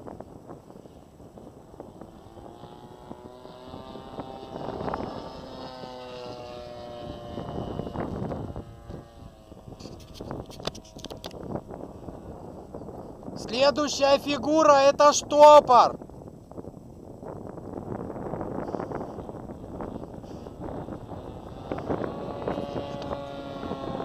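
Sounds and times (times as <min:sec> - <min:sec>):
model plane engine drone: 0:00.0 - 0:24.0
wind buffeting microphone: 0:00.0 - 0:24.0.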